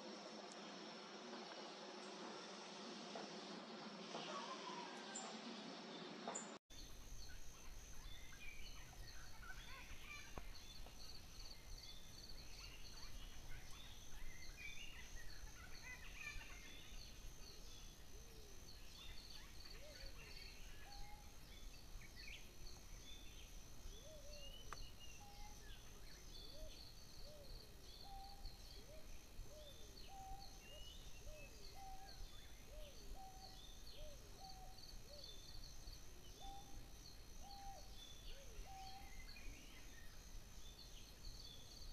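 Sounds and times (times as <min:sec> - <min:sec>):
birds chirping and twittering: 0:03.2 - 0:41.9.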